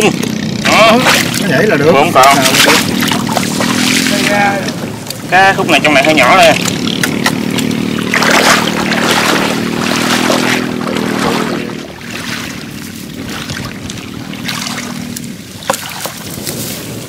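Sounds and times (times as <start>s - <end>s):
motor drone: 0.0s - 16.6s
water splashing around wading person: 0.7s - 5.3s, 5.9s - 17.0s.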